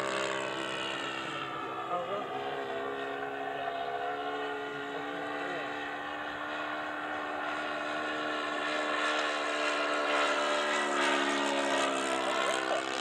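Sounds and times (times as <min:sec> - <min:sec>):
model plane engine drone: 0:00.0 - 0:13.0.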